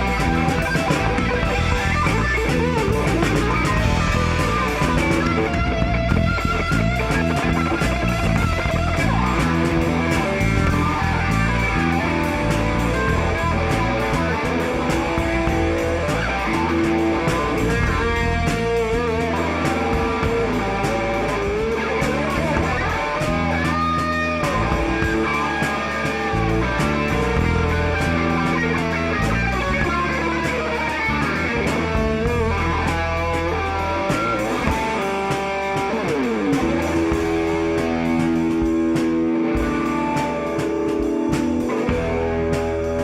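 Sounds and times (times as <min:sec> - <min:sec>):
rock band playing: 0:00.0 - 0:43.0.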